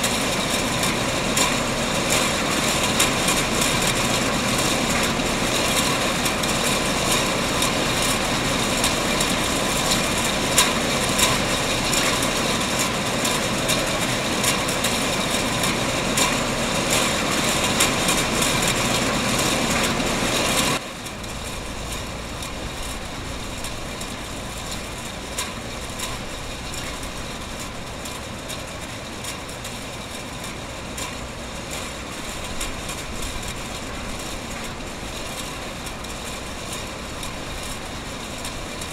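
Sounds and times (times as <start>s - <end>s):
production-line machinery running: 0.0s - 38.9s
steady machine hum: 0.0s - 38.9s.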